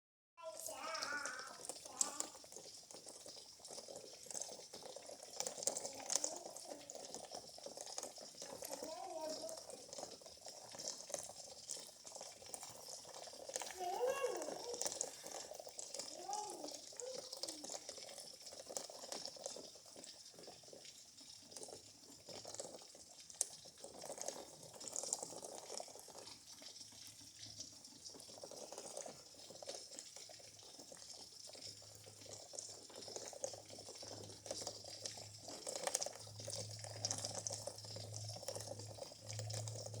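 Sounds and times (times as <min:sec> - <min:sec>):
raindrops dripping and pattering: 0:00.4 - 0:40.0.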